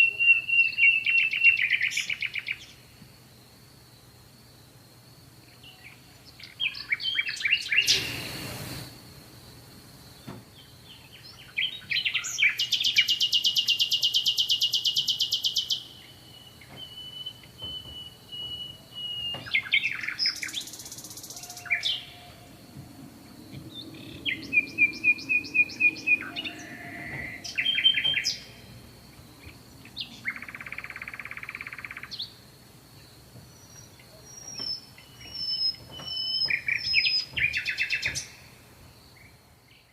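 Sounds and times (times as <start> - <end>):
songbirds singing and chirping: 0.0 - 3.0, 5.4 - 8.8, 10.0 - 39.9.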